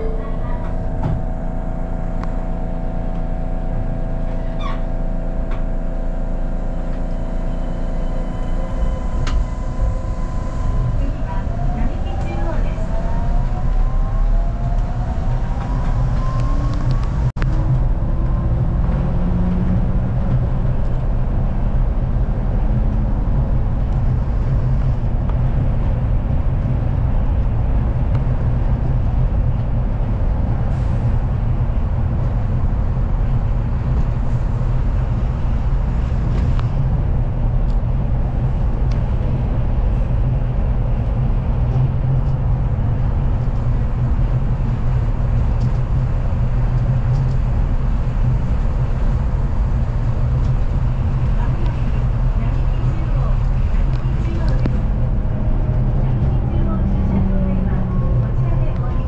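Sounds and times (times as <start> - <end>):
train running noise from inside: 0.0 - 59.0.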